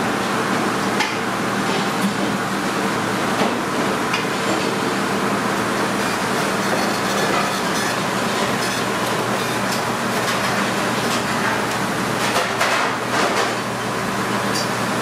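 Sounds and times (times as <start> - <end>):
exhaust fans humming: 0.0 - 15.0.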